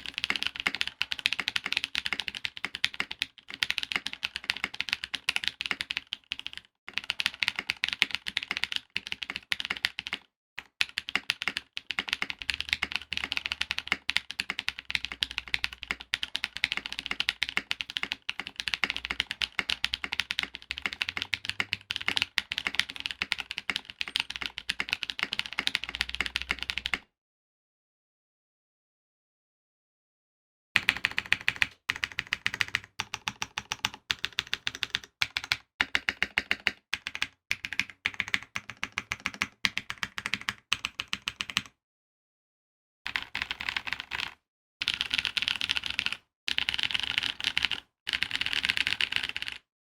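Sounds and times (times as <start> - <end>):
fast typing on mechanical keyboard: 0.0 - 27.1, 30.8 - 41.8, 43.1 - 49.7.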